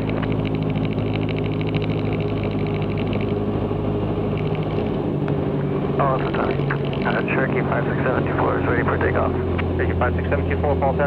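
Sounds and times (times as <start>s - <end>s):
aircraft engine droning: 0.0s - 11.0s.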